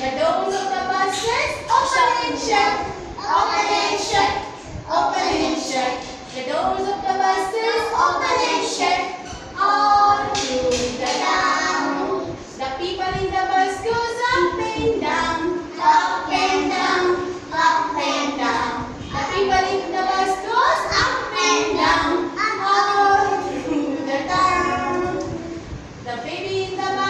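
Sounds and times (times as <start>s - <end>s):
children singing a rhyme: 0.0s - 25.6s, 26.4s - 27.0s.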